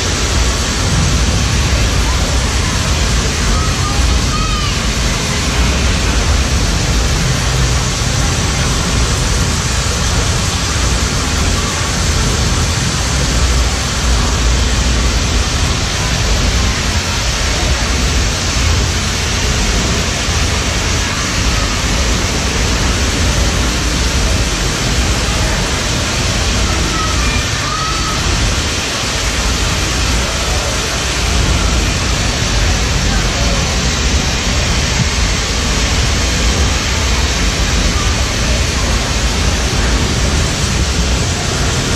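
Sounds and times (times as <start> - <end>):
deep rumble: 0.0 - 27.2, 28.0 - 41.9
waterfall rushing: 0.0 - 41.9.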